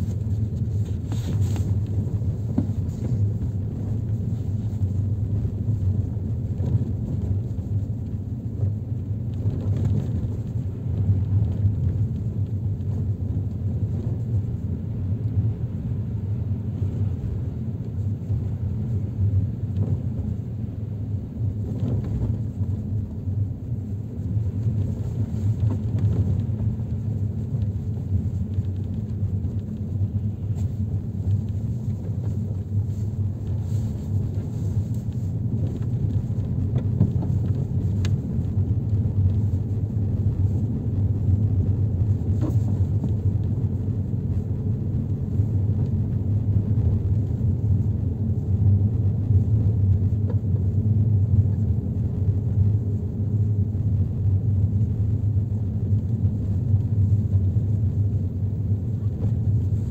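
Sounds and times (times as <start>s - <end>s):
vehicle rumble on road: 0.0s - 59.9s.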